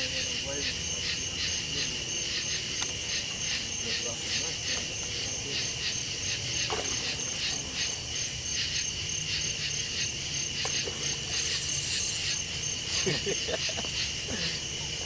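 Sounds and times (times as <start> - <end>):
crickets chirping: 0.0 - 15.0
steady high insect trill: 0.0 - 15.0.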